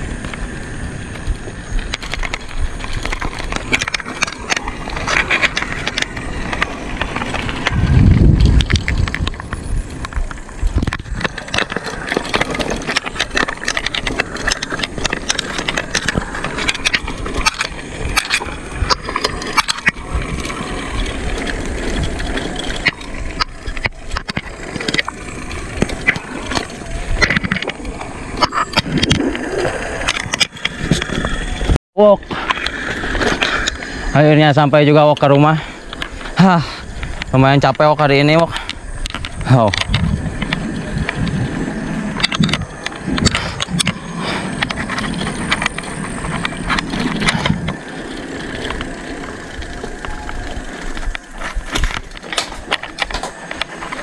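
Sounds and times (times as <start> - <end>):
bicycle rattling and clicking: 0.0 - 54.0
road and wind noise: 0.0 - 54.0.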